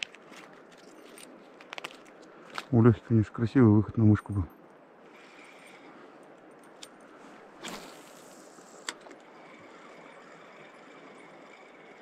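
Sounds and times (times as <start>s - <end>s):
steady outdoor noise: 0.0s - 12.0s.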